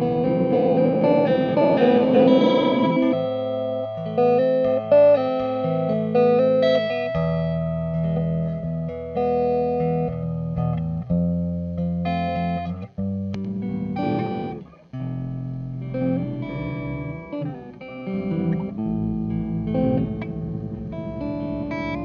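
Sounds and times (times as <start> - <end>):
electric guitar with delay: 0.0 - 10.8, 11.9 - 22.0.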